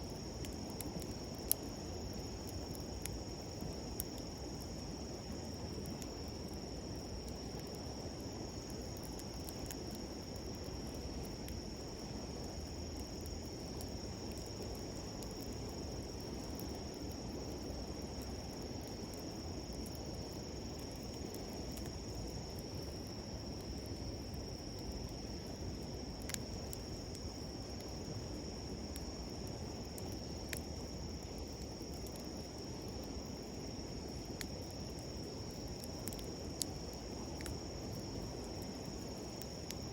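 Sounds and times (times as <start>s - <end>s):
campfire crackles: 0.0s - 39.9s
insects chirring: 0.0s - 39.9s.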